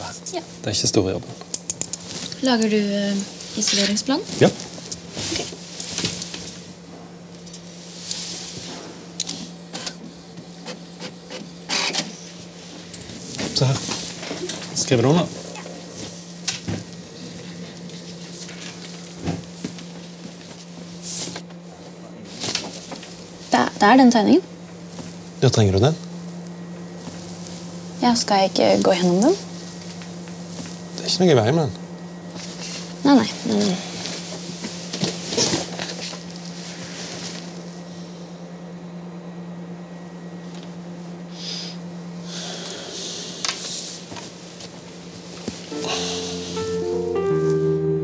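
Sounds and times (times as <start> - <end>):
low room hum: 0.0 - 48.0.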